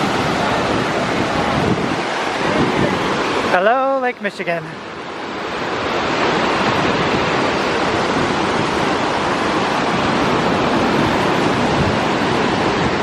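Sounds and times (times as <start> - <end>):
water rushing at the shore: 0.0 - 13.0.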